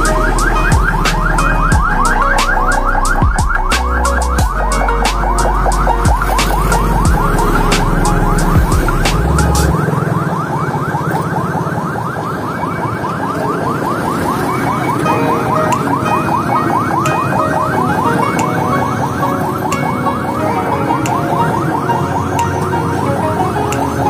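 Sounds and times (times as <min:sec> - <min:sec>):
electronic alarm warbling: 0:00.0 - 0:24.0
traffic rumble: 0:00.0 - 0:24.0.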